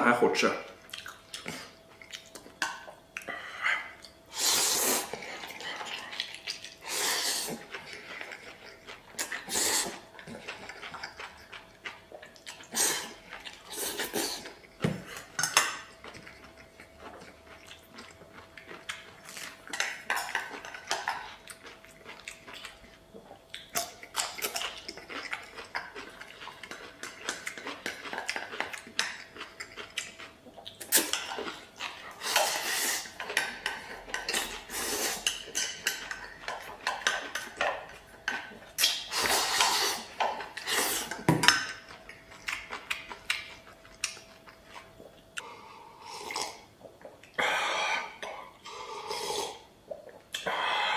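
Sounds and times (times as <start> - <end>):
noodles slurped and chewed: 3.9 - 50.6.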